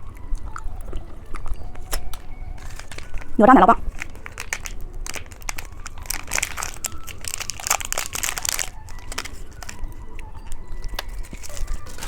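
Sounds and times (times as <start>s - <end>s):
plastic wrapper crinkling: 1.7s - 12.0s.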